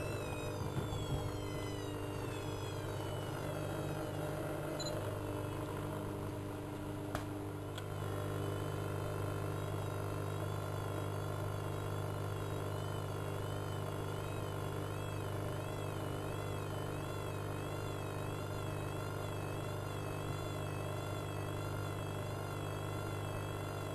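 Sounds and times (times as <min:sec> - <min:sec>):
high wavering whine: 0:00.0 - 0:07.0, 0:08.5 - 0:23.9
washing machine motor hum: 0:00.0 - 0:23.9.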